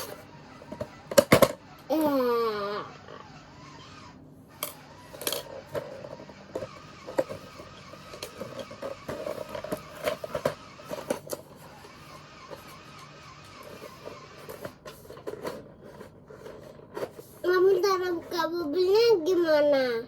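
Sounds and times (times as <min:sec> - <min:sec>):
plastic toys and packaging rattling: 0:00.0 - 0:02.3, 0:04.6 - 0:19.1.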